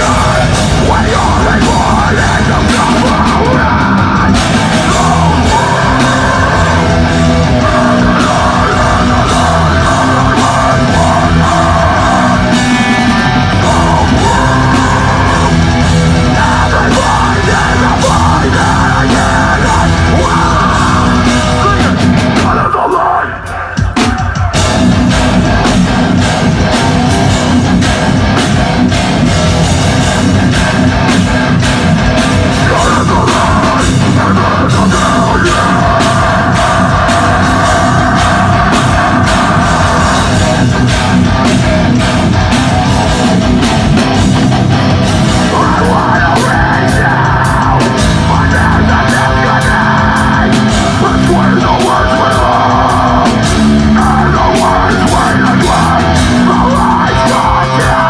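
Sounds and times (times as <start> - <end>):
vocalist screaming: 0.0 - 24.9, 29.5 - 58.0
distorted electric guitars: 0.0 - 58.0
drum kit: 0.0 - 58.0.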